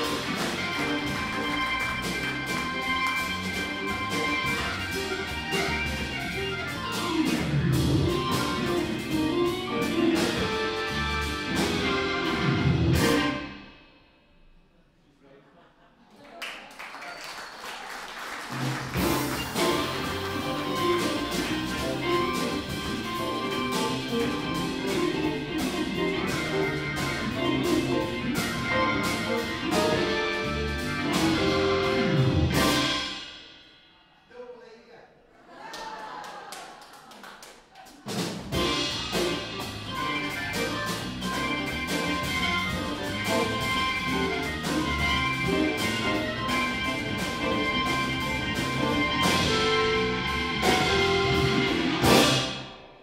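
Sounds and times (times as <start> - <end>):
blues band playing live: 0.0 - 14.1, 17.6 - 33.9, 38.0 - 53.0.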